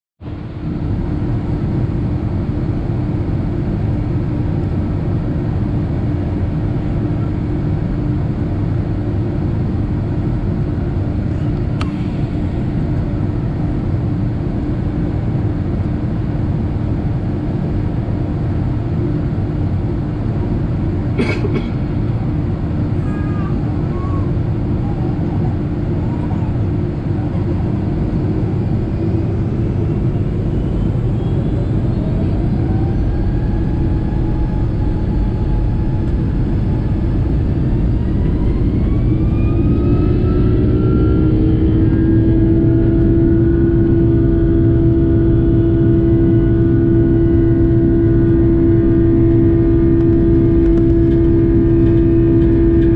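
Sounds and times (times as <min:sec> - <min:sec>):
airplane cabin engine rumble: 0:00.2 - 0:52.9.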